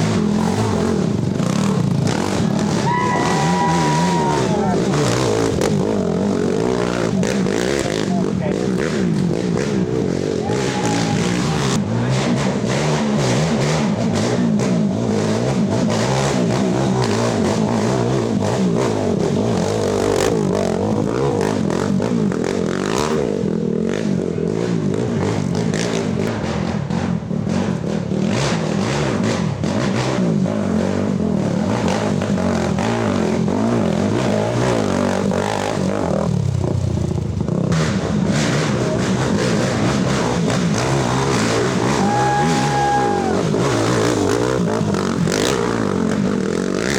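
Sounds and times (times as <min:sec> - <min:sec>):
atv engines revving: 0:00.0 - 0:46.9.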